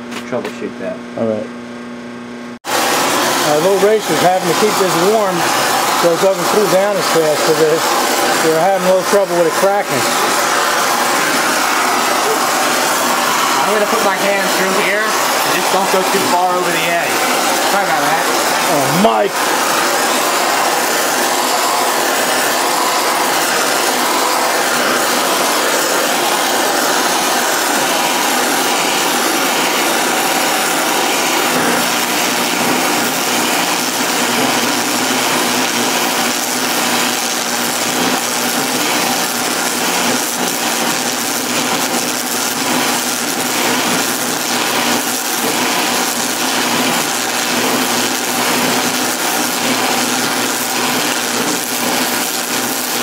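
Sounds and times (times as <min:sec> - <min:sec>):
torch flame hissing: 0:02.6 - 0:53.0
welding arc crackling hiss: 0:02.6 - 0:53.0.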